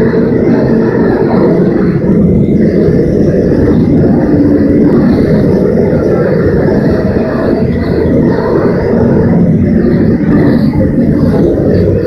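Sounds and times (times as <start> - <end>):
propane torch burning: 0.0 - 12.0.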